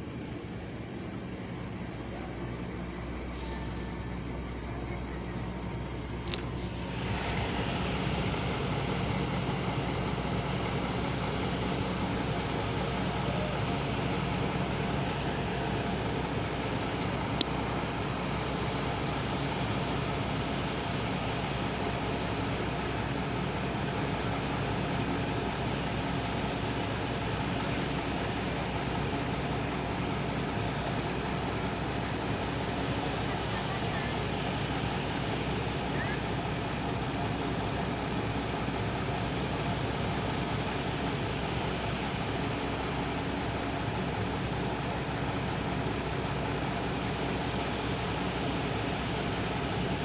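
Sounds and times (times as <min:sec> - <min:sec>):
diesel truck engine running: 0:00.0 - 0:50.0.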